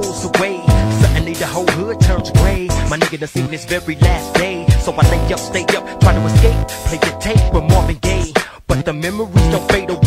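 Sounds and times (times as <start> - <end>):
hip hop beat with deep bass: 0.0 - 10.0.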